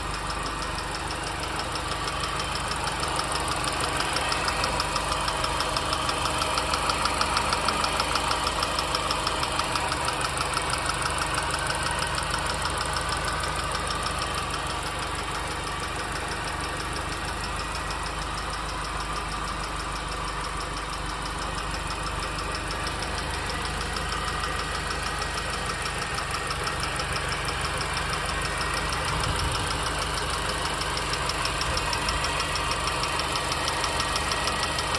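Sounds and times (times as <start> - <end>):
car engine idling: 0.0 - 34.9
fast regular ticking: 0.2 - 34.9.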